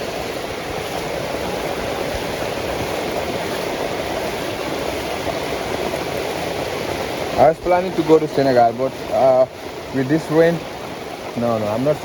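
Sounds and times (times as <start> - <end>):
heavy rain falling: 0.0 - 12.0
water running: 0.0 - 12.0.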